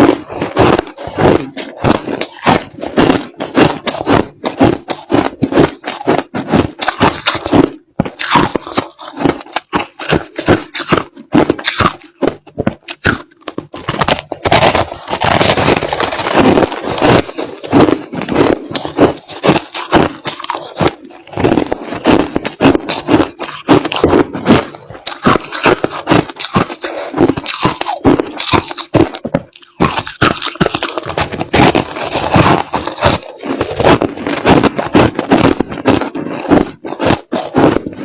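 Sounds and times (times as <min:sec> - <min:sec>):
chewing crushed ice: 0:00.0 - 0:38.0.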